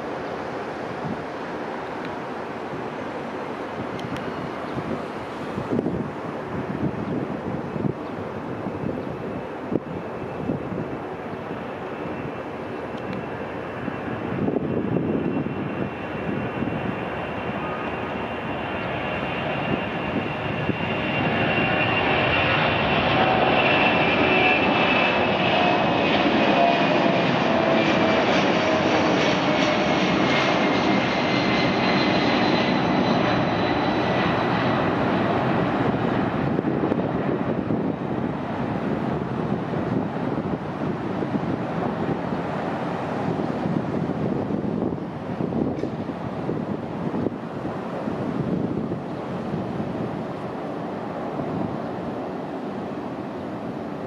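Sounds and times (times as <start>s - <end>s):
jet engine whine: 0.0s - 54.0s
jet engines roaring: 0.0s - 54.0s.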